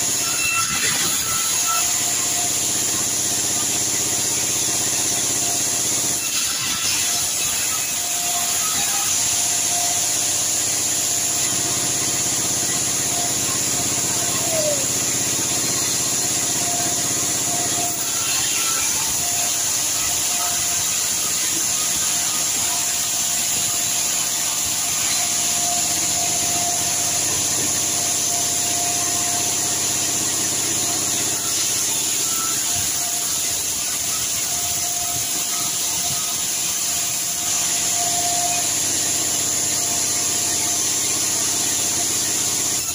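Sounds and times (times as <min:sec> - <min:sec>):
sawmill saw ripping log: 0:00.0 - 0:42.9.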